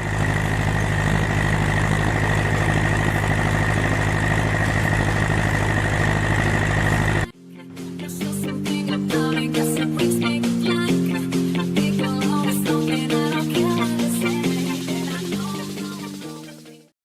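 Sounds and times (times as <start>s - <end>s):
tractor diesel engine running: 0.0s - 7.4s, 8.2s - 16.6s.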